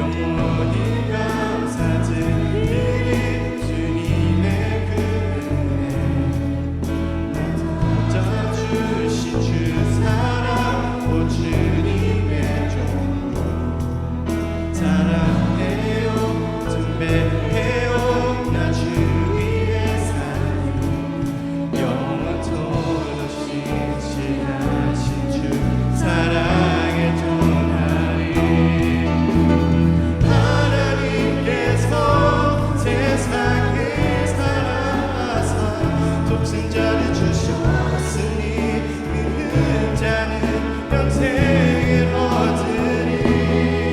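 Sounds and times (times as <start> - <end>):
group singing a worship song: 0.0 - 43.9
instrumental accompaniment with bass: 0.0 - 43.9.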